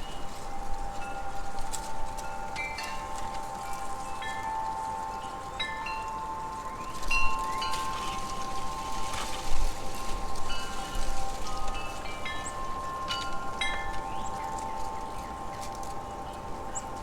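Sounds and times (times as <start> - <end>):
wind buffeting microphone: 0.0 - 17.0
wind chimes ringing: 0.0 - 17.0.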